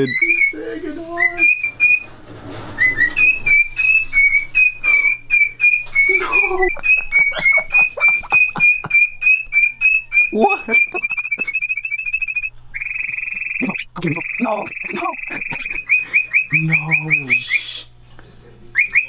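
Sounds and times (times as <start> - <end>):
cockatiel whistling: 0.0 - 2.1, 2.8 - 17.9, 18.7 - 19.0.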